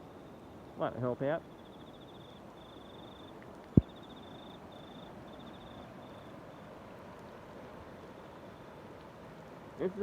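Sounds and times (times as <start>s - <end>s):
rain and running water: 0.0s - 10.0s.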